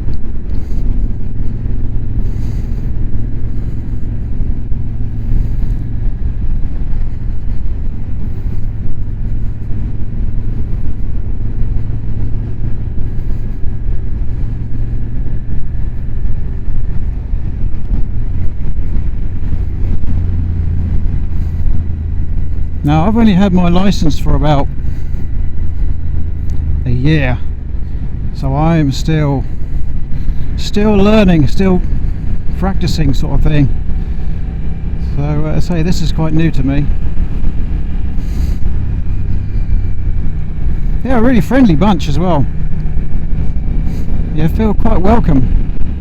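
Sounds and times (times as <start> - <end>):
motorcycle engine running: 0.0 - 46.0
wind rushing over microphone: 0.0 - 46.0.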